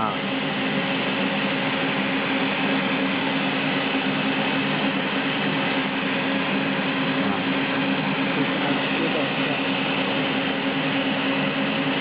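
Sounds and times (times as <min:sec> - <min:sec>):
machine hum with fan rushing: 0:00.0 - 0:12.0.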